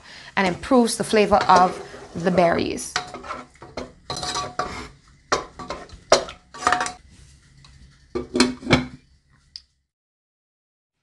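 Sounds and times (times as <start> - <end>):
wooden spoon scraping a pot: 0.4 - 9.3.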